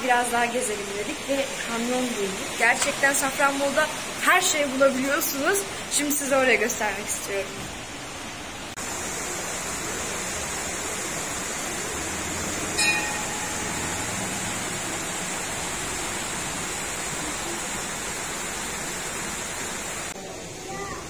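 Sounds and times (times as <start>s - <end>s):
flowing water rushing: 0.0s - 21.0s.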